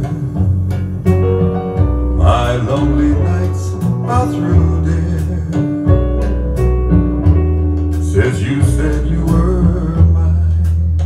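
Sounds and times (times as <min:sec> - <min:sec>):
song with guitar bass and singing: 0:00.0 - 0:11.0.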